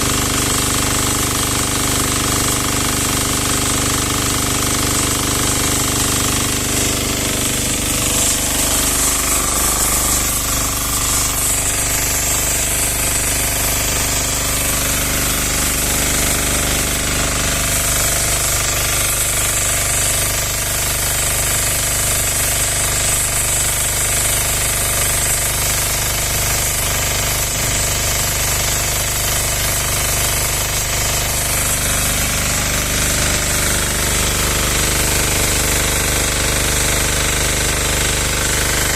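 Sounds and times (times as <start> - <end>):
pressure washer engine knocking: 0.0 - 38.9
pressure washer hiss: 0.0 - 38.9.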